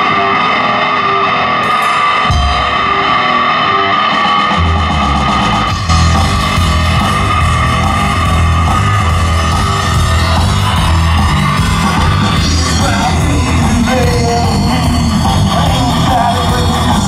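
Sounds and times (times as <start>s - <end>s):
bass guitar: 0.0s - 17.0s
drums: 0.0s - 17.0s
electric guitar: 0.0s - 17.0s.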